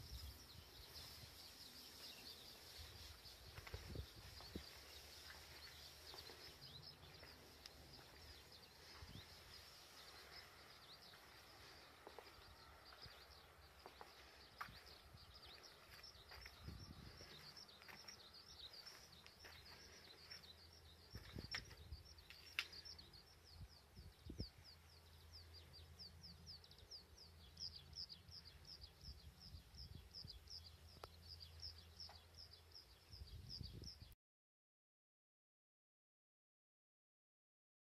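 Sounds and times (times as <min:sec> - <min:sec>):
bird chirping: 0:00.0 - 0:34.2.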